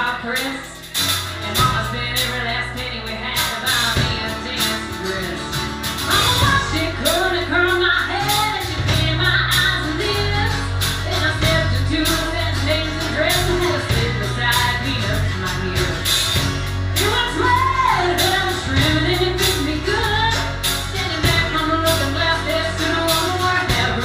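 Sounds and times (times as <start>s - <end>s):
woman singing into a microphone: 0.0s - 16.4s, 17.0s - 24.0s
bass guitar: 0.0s - 24.0s
drums: 0.0s - 24.0s
electric guitar: 0.0s - 24.0s.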